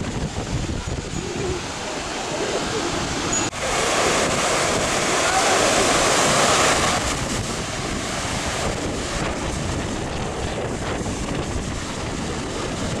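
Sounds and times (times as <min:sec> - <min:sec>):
waves breaking on beach: 0:00.0 - 0:13.0
wind buffeting microphone: 0:00.0 - 0:13.0.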